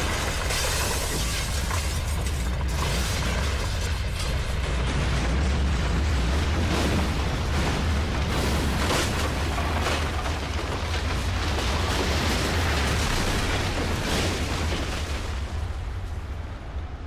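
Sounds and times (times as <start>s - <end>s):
crackling and crashing: 0.0s - 17.0s
deep earthquake rumble: 0.0s - 17.0s.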